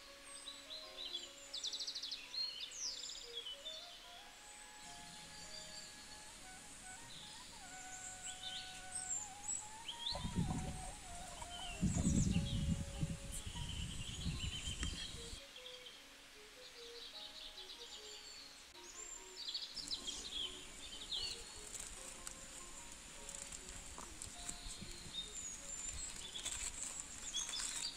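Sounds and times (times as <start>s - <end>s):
birds chirping and calling: 0.3s - 16.0s, 16.8s - 27.9s.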